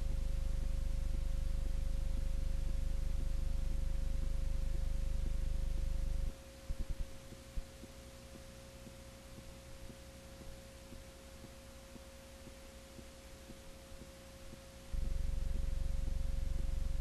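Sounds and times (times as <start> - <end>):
steady test tone with hum and hiss: 0.0 - 17.0.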